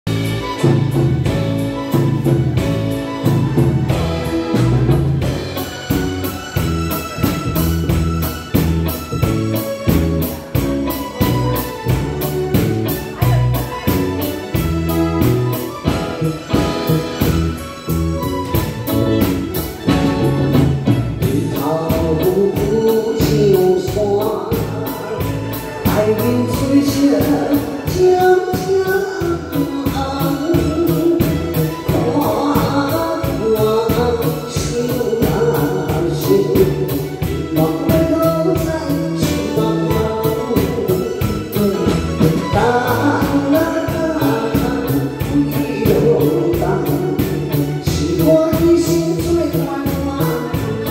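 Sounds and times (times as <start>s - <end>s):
drum kit: 0.0s - 50.9s
keyboard: 0.0s - 50.9s
electric guitar: 0.1s - 50.9s
lead melody line: 0.1s - 50.9s.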